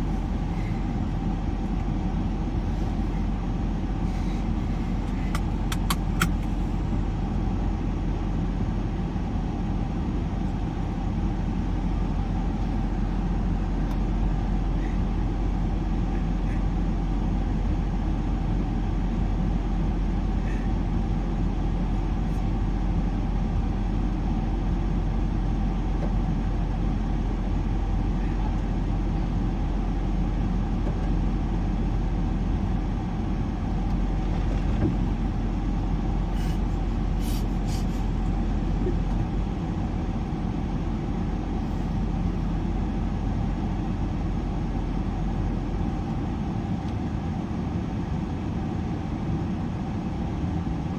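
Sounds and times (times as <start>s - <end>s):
road and engine rumble: 0.0s - 50.9s.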